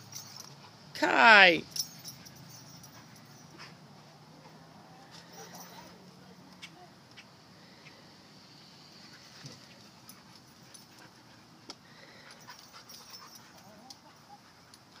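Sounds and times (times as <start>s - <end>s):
dogs panting: 1.8s - 8.0s, 8.6s - 15.0s.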